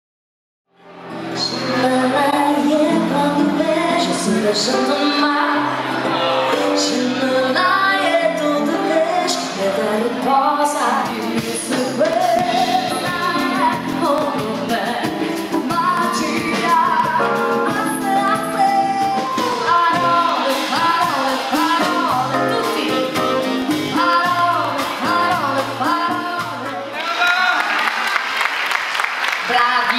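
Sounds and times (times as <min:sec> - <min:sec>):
live band playing pop: 0:00.8 - 0:29.7
woman singing: 0:01.3 - 0:05.9, 0:06.6 - 0:26.9.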